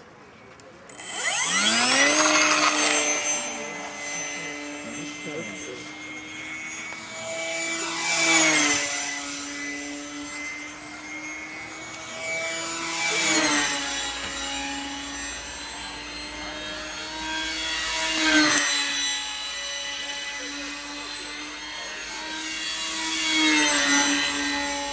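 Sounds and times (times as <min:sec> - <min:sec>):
model plane engine running: 0:00.8 - 0:24.9.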